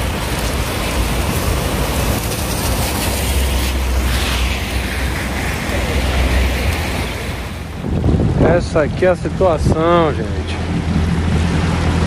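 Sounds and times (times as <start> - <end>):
flooding river rushing: 0.0 - 12.0
wind buffeting microphone: 0.0 - 12.0.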